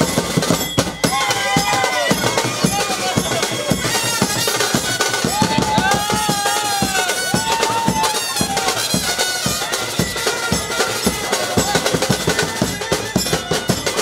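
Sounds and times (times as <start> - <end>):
rapid steady drumming: 0.0 - 14.0.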